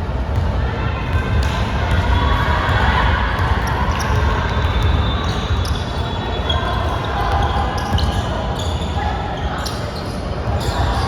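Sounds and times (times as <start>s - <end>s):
echoing gym hall din: 0.0s - 11.0s.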